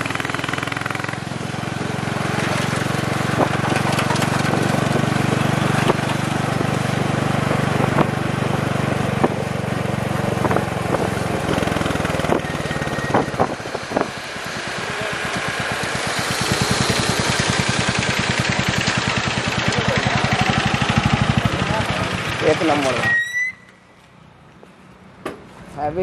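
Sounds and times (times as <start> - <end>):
motorcycle engine running slowly: 0.0 - 23.0.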